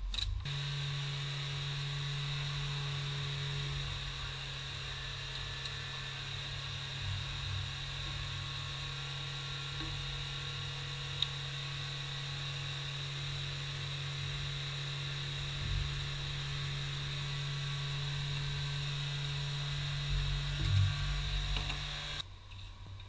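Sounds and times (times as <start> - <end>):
faint whir: 0.1 - 23.0
steady low hum: 0.1 - 23.0.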